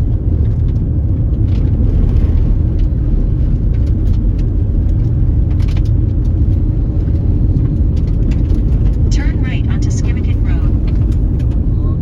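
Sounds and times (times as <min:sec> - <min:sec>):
car tyres and engine rumbling: 0:00.0 - 0:12.0.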